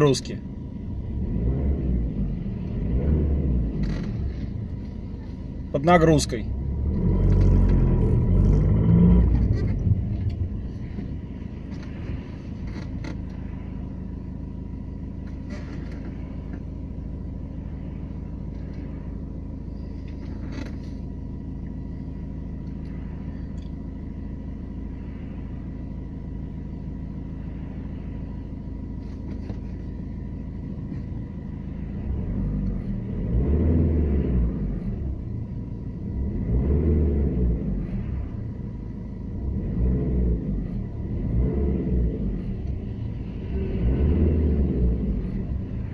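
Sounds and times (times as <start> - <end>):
diesel engine running: 0.0 - 45.9
faint whine: 0.0 - 45.9.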